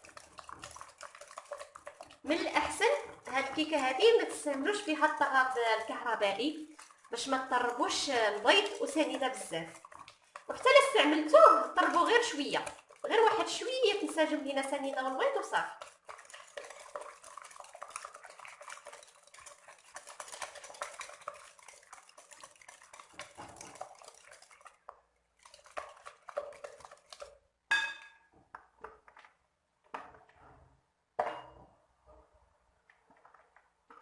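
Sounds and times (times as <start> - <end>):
whisk clicking against bowl: 0.0 - 27.4.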